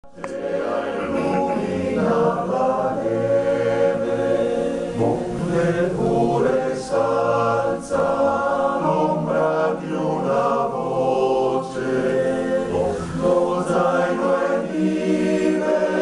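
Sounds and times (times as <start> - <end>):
men's choir singing a cappella: 0.1 - 16.0.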